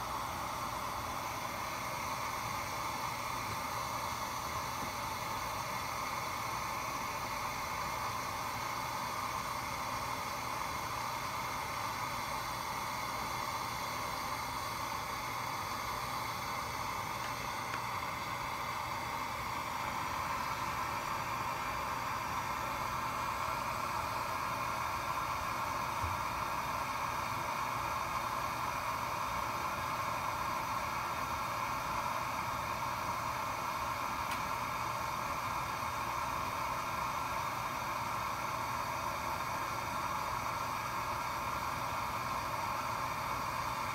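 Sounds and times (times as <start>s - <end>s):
hiss of rushing air: 0.0s - 43.9s.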